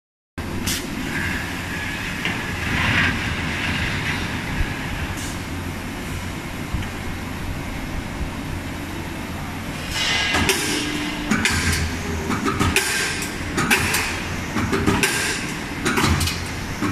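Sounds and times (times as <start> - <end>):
hydraulic machine humming: 0.4 - 16.9.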